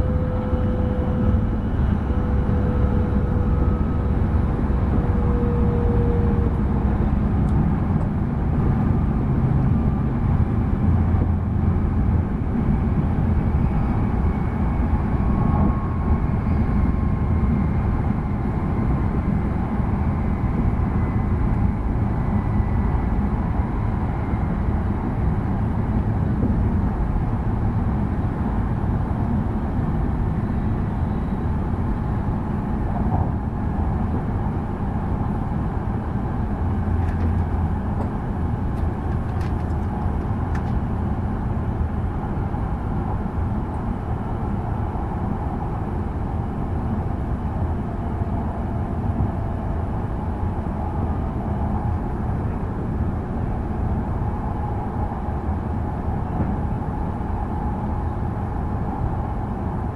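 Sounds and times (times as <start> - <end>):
train rumbling at speed: 0.0 - 59.9.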